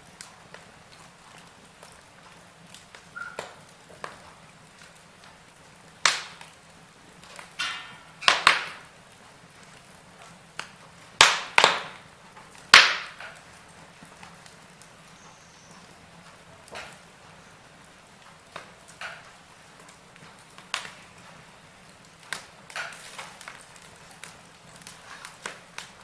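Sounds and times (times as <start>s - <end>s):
faint steady hiss: 0.0s - 26.0s
wood fire crackling: 0.0s - 26.0s.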